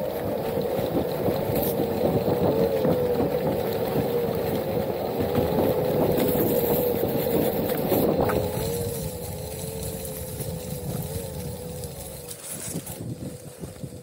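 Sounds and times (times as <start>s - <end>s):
electric motor whining: 0.0s - 14.0s
tyre rumbling on rocky trail: 0.0s - 14.0s.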